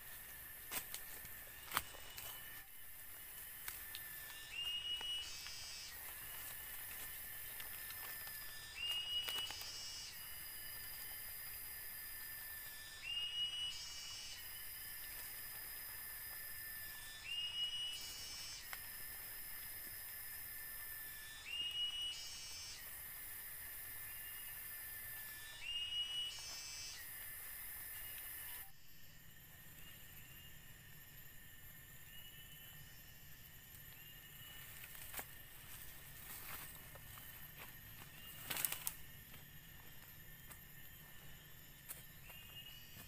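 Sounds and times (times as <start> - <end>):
cicada buzzing: 0.0 - 43.0
cicada rising whistle: 0.0 - 43.0.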